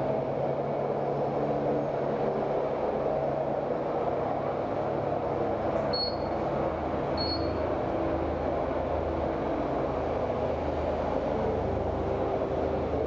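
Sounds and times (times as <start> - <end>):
steady rushing hum: 0.0 - 13.0.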